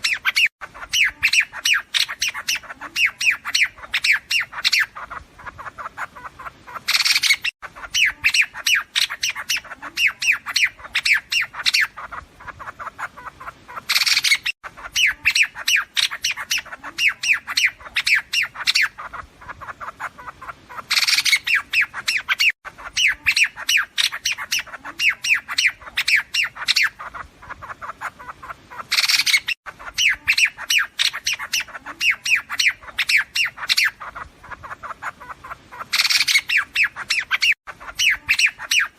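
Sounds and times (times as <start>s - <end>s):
recorded bird calls chattering: 0.0s - 38.9s.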